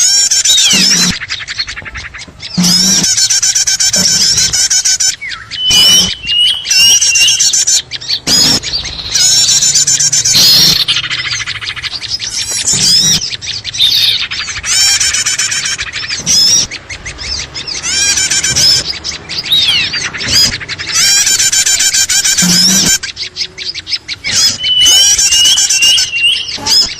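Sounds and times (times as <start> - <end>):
small birds chirping and trilling: 0.0 - 26.9.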